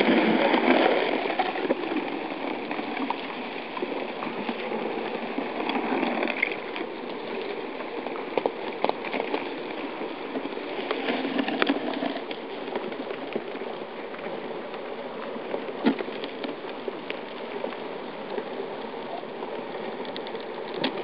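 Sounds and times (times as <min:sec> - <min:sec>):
river ice crackling and grinding: 0:00.0 - 0:21.0.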